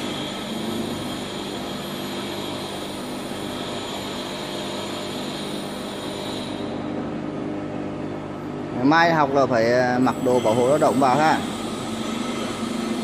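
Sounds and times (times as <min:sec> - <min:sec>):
machinery humming and whirring: 0:00.0 - 0:13.0.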